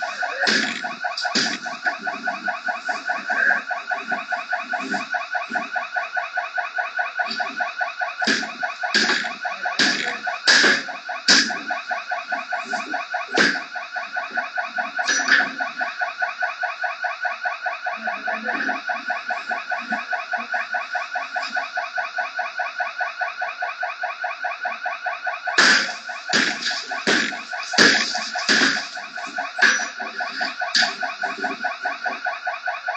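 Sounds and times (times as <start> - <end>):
alarm ringing with pulsing tone: 0.0 - 32.9.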